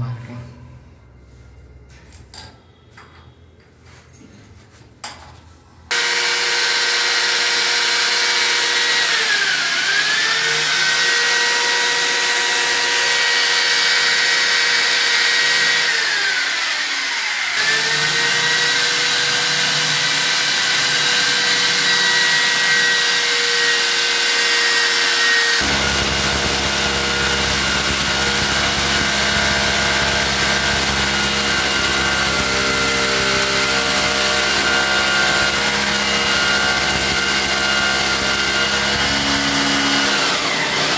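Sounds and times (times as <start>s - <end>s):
electric drill boring into tile: 5.9s - 40.9s.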